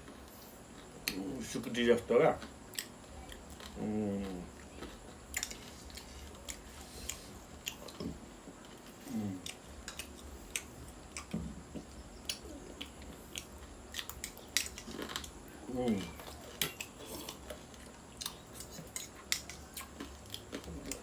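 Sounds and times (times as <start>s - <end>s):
chewing: 0.0s - 1.6s, 2.3s - 21.0s.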